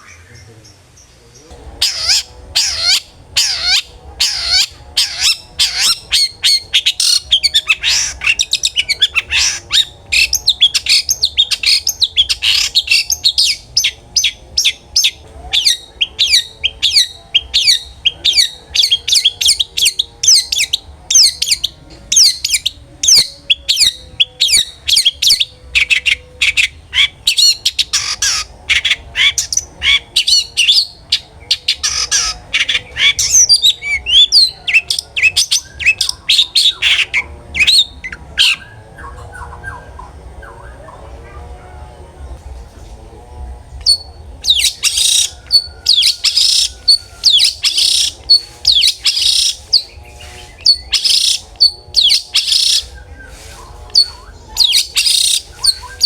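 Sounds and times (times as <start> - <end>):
bird chirping and squawking: 1.4 - 41.1, 43.8 - 56.0.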